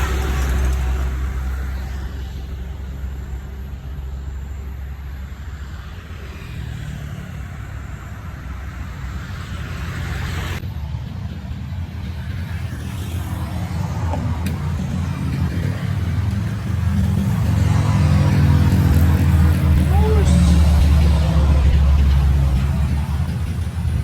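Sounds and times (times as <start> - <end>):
road noise: 0.0 - 24.0
truck engine rumbling: 0.0 - 24.0.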